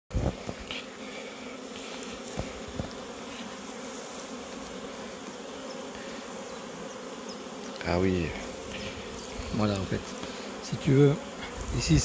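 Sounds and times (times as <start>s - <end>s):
bees buzzing: 0.1s - 12.0s.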